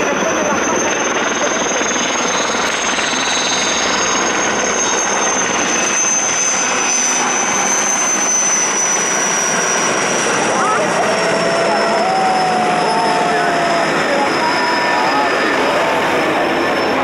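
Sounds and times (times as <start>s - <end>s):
helicopter engines and rotor: 0.0s - 17.0s
helicopter turbine whine: 0.0s - 17.0s.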